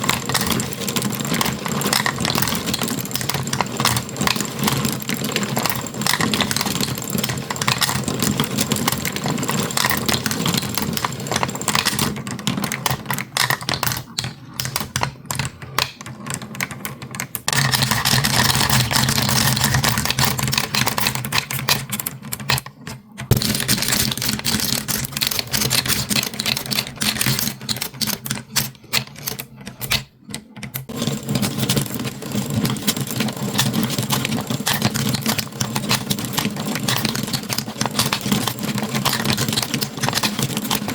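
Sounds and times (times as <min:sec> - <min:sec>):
marbles rolling down a track: 0:00.0 - 0:21.8, 0:23.3 - 0:29.2, 0:30.9 - 0:40.9
marbles clicking against track: 0:00.0 - 0:40.9.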